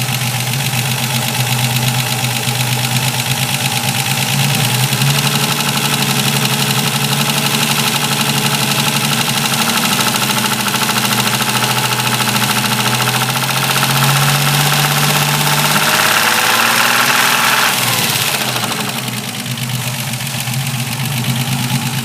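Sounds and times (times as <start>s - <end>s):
engine running with grinding noise: 0.0s - 22.0s.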